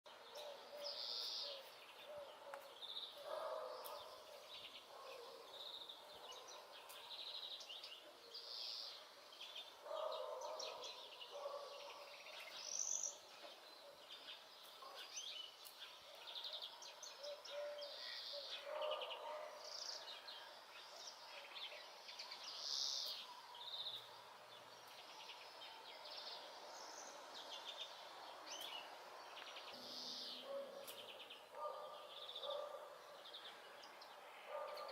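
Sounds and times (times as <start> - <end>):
finch song with twittering trills: 0.1 - 34.9.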